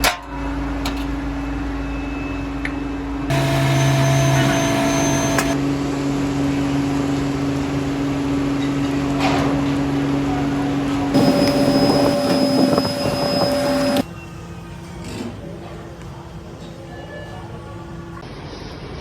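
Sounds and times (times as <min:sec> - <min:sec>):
workshop machinery humming: 0:00.0 - 0:18.2.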